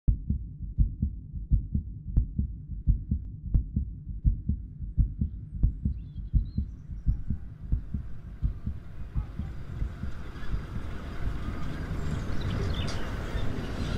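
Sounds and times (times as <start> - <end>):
heartbeat thumps: 0.1 - 12.5.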